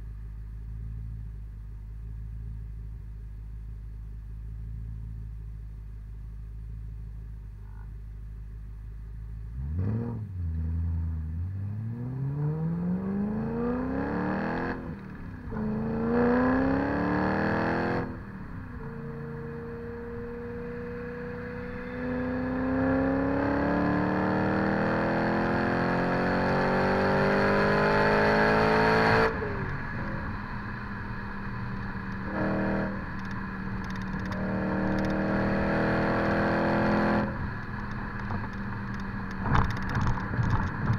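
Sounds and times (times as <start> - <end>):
car engine idling and accelerating: 0.0 - 40.9.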